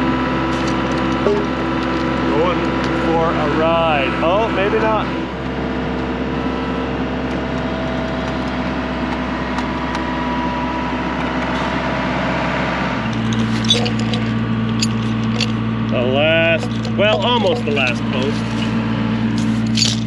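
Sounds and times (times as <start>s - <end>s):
machine engine running: 0.0s - 20.0s.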